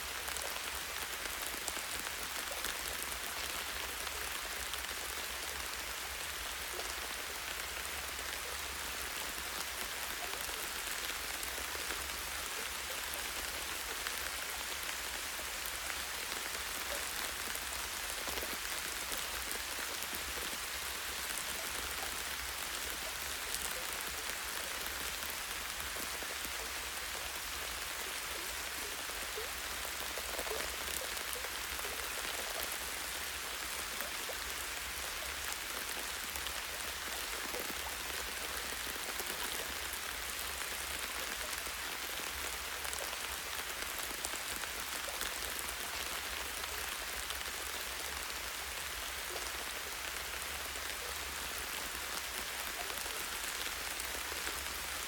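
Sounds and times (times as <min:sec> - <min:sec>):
light rain on leaves: 0:00.0 - 0:55.0.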